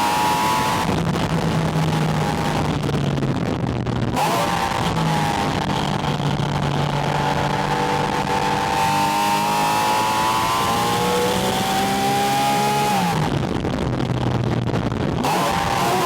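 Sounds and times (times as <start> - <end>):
car engine under load: 0.0 - 16.0
wind rush: 0.0 - 16.0.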